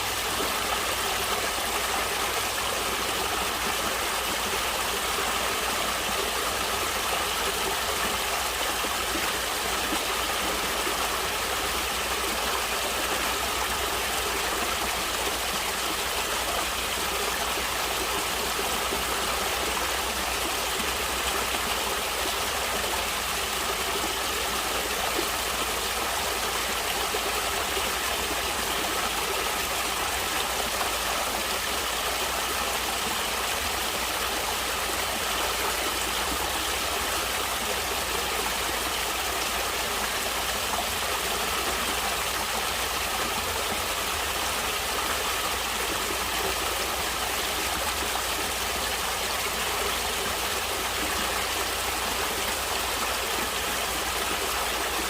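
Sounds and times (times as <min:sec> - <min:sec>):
stream water flowing and splashing: 0:00.0 - 0:55.0.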